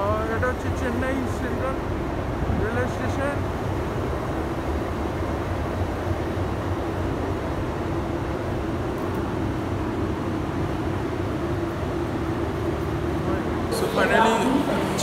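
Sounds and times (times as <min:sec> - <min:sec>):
train station droning hum: 0:00.0 - 0:15.0.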